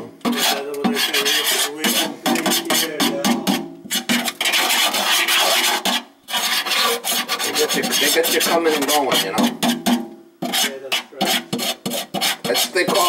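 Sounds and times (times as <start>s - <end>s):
tool scraping sink drain: 0.2s - 13.0s.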